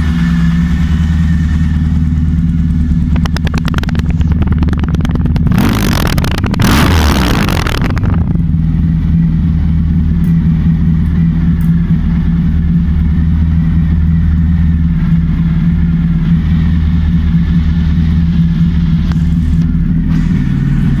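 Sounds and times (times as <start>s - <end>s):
motorcycle engine idling: 0.0s - 6.8s, 7.4s - 21.0s.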